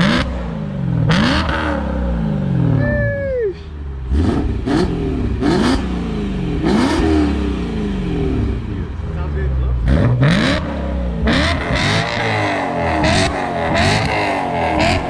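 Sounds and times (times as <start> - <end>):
car engine revving: 0.0 - 3.1, 3.7 - 15.0.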